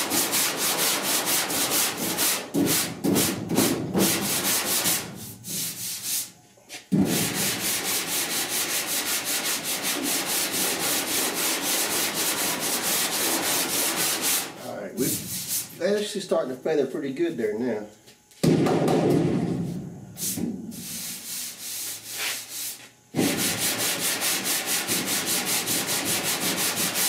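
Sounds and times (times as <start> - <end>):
hand sanding metal panel: 0.0 - 16.1, 19.6 - 27.0.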